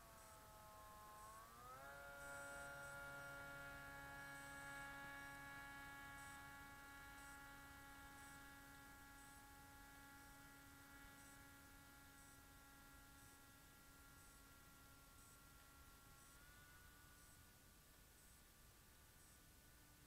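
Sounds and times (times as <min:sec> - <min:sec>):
low hum: 0:00.0 - 0:19.8
small electric motor whine: 0:00.0 - 0:20.0.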